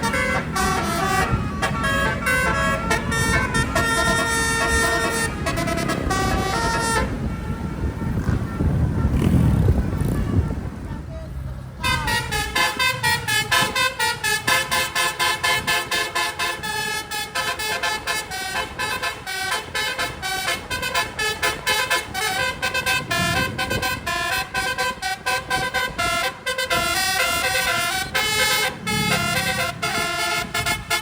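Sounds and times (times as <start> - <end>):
multi-trumpet air horn tune: 0.0 - 10.8, 11.8 - 31.0.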